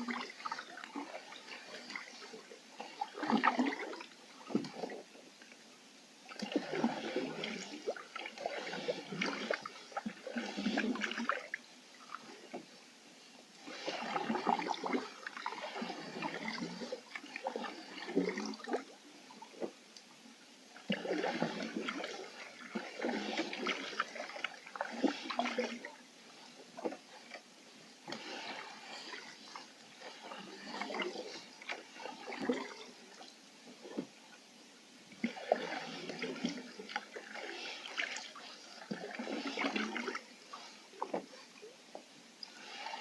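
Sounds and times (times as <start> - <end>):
paddle splashing in water: 0.0 - 5.6, 6.2 - 12.7, 13.6 - 19.8, 20.7 - 34.2, 35.1 - 43.0
water lapping and trickling: 0.0 - 43.0.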